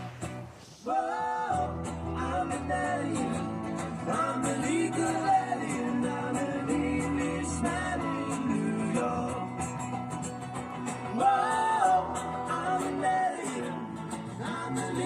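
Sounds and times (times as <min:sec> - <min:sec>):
guitar: 0:00.0 - 0:15.0
person singing: 0:00.9 - 0:09.7, 0:11.1 - 0:15.0.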